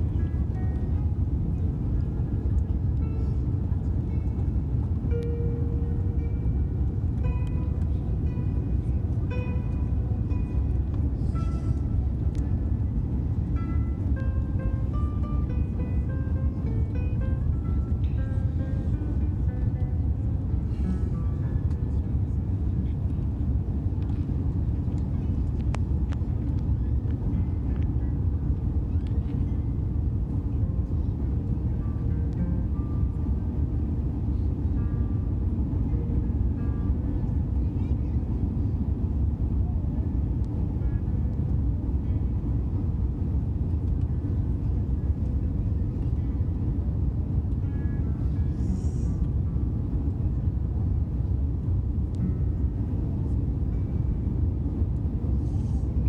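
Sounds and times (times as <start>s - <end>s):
aircraft cabin rumble: 0.0s - 56.0s
faint voices: 0.0s - 56.0s.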